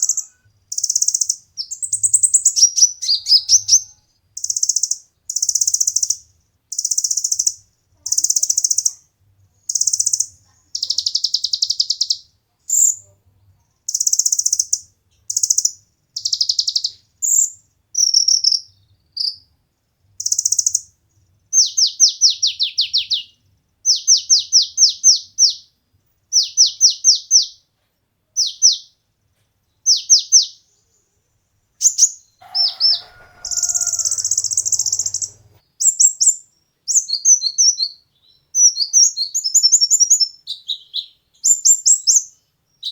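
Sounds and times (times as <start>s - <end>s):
sunbird singing buzzy trills: 0.0s - 13.2s, 13.8s - 19.5s, 20.2s - 27.6s, 31.8s - 42.9s.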